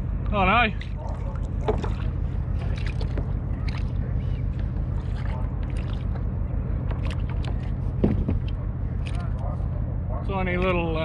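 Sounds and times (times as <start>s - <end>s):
wind rumble on microphone: 0.0s - 11.0s
water sloshing around kayak: 0.5s - 9.8s.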